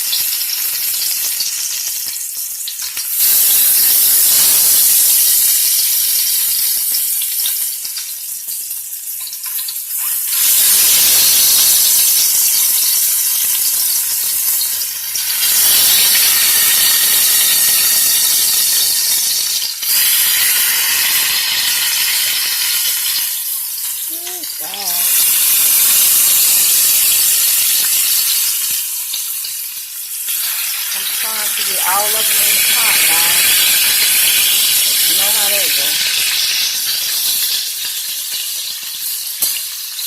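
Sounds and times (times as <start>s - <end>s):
hot grease sizzling in a pot: 0.0s - 40.0s.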